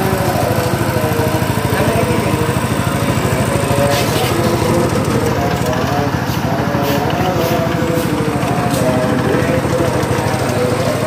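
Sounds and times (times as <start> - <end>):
petrol engine running loudly: 0.0 - 11.0.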